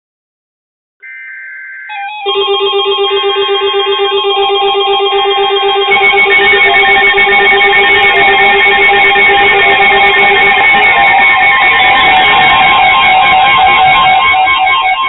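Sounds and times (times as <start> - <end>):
higher-pitched electronic alarm: 1.0 - 15.0
warbling data burst: 1.1 - 15.0
rapidly pulsing alarm beep: 1.5 - 15.0.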